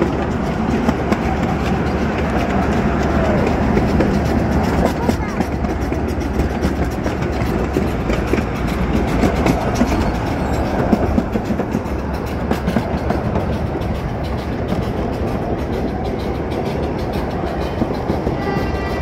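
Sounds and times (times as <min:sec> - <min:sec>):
miniature train rumbling on track: 0:00.0 - 0:19.0
wheels clicking on rails: 0:00.0 - 0:19.0.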